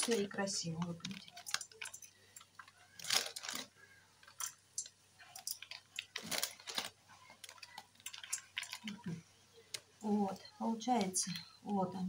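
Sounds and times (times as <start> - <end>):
seeds rustling and crackling: 0.0 - 11.6.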